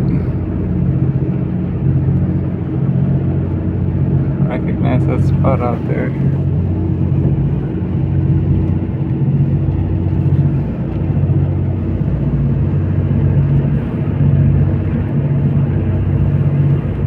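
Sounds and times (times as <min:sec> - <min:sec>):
droning hum: 0:00.0 - 0:17.0
train rumbling: 0:00.0 - 0:17.0.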